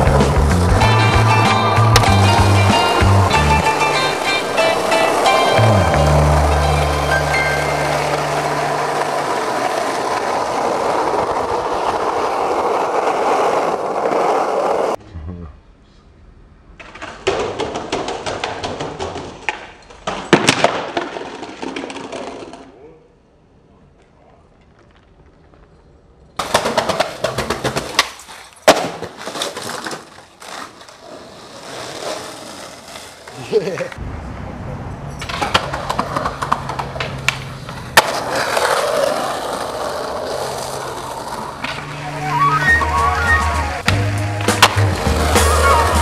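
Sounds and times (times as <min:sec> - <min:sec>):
skateboard wheels rolling on asphalt: 0:00.0 - 0:15.0, 0:16.4 - 0:46.0.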